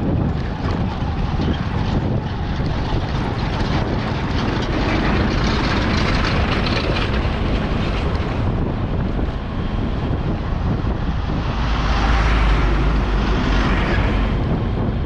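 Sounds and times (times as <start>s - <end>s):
road and wind noise: 0.0s - 15.0s
vehicle passing: 0.0s - 15.0s.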